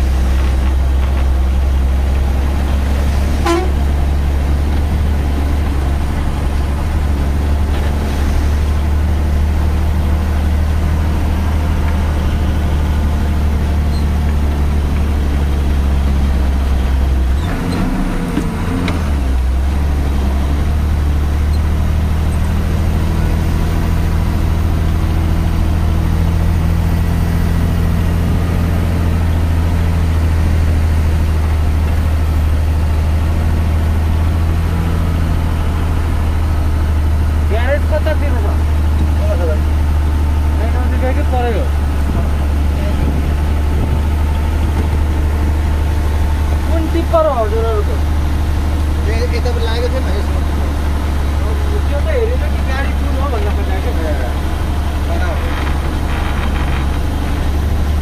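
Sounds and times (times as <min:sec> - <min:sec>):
truck diesel engine from inside cab: 0:00.0 - 0:58.0.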